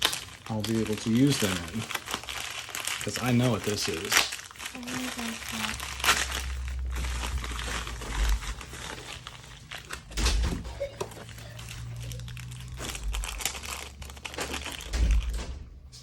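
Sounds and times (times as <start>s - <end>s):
packaging crinkling: 0.0s - 15.4s.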